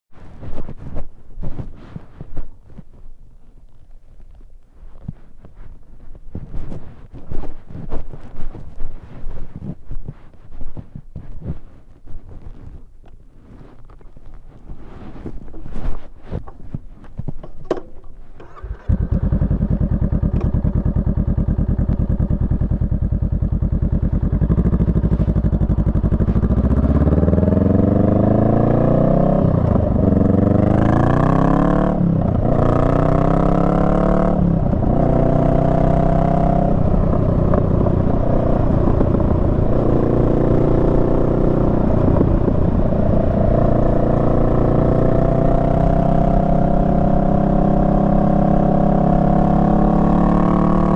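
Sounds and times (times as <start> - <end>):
motorcycle engine idling and accelerating: 0.1 - 50.9.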